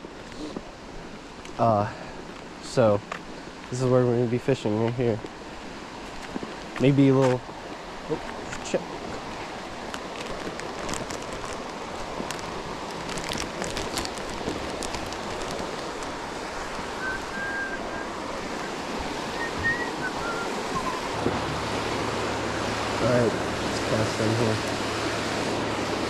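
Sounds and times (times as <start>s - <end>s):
water rushing through spillway: 3.6s - 26.0s.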